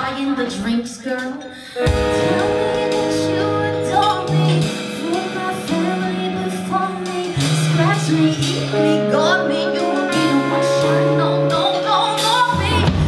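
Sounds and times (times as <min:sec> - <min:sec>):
woman singing: 0:00.0 - 0:13.0
electric guitar: 0:01.6 - 0:13.0
bass notes: 0:01.8 - 0:13.0.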